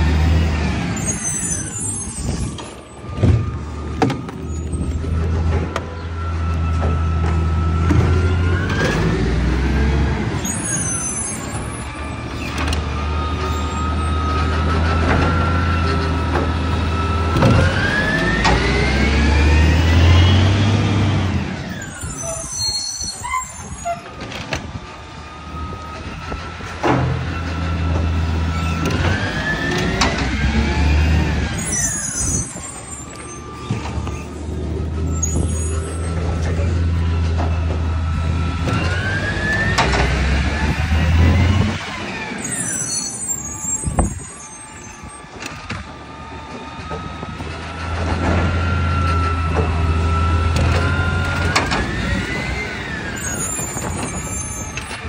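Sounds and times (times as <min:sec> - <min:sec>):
hydraulics rising in pitch: 0:00.0 - 0:24.2, 0:25.2 - 0:55.0
garbage truck engine rumble: 0:00.0 - 0:55.0.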